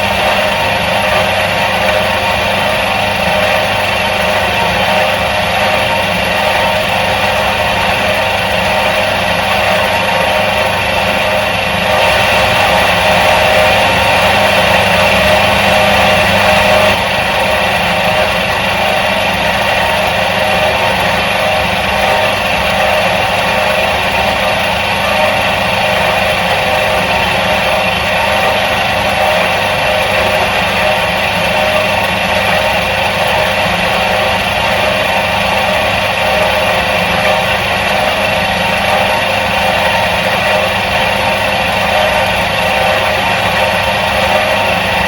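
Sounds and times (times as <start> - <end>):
washing machine motor humming: 0.0 - 45.0.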